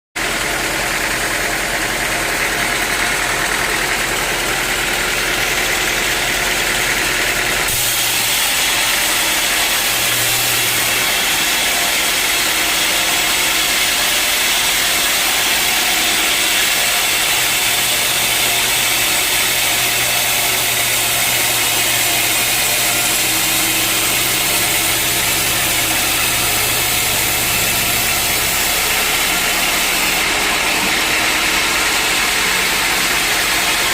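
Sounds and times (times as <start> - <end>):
sawmill machinery drone: 0.2 - 33.9.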